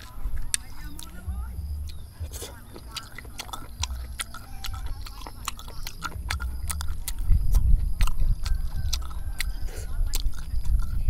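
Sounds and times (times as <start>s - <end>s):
chewing: 0.0s - 11.0s
low rumble: 0.0s - 11.0s.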